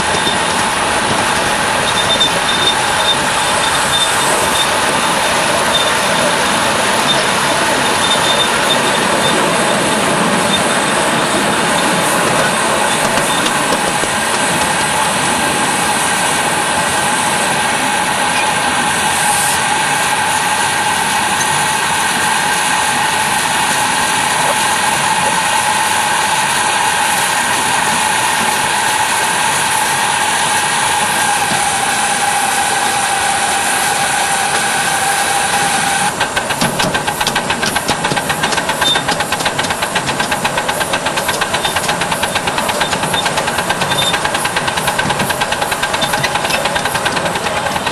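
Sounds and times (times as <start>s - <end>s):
steam hissing: 0.0s - 47.9s
steam locomotive exhaust chuffs: 0.0s - 47.9s
whining tone: 0.0s - 47.9s.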